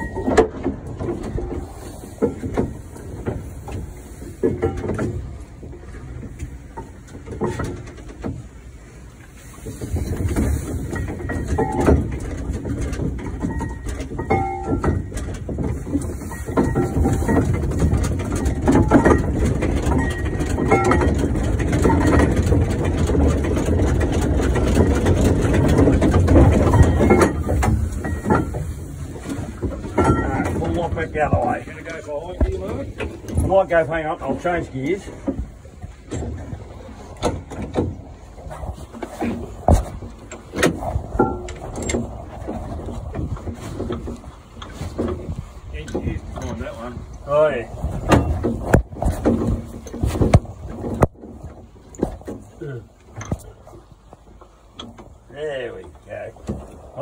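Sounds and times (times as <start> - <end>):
metal clanks and knocks: 0.0 - 56.8
steam engine rumbling: 0.0 - 57.0.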